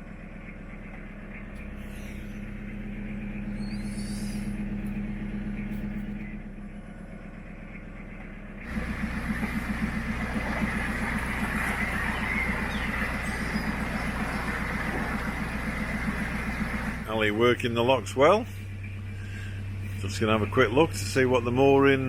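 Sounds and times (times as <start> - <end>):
diesel engine chugging: 0.0 - 22.0.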